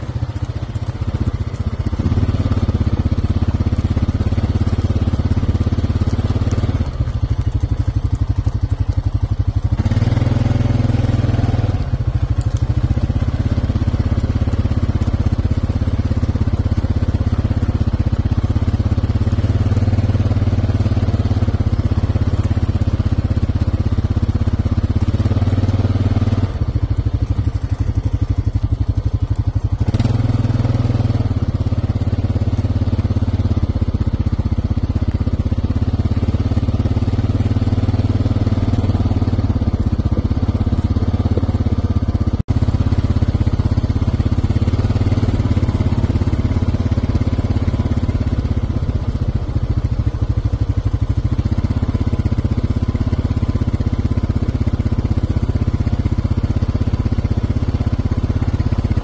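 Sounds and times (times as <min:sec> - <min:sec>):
small engine humming: 0:00.0 - 0:59.0.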